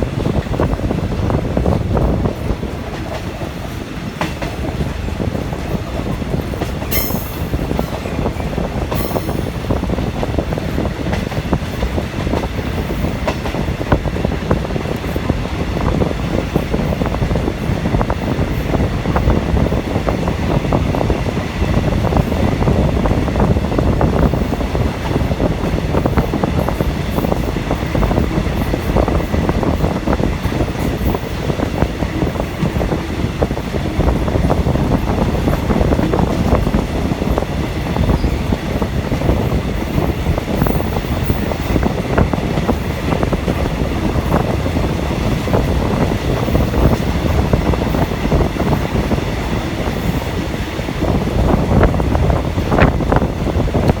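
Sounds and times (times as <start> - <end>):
train rumble and wheel clatter: 0.0 - 54.0.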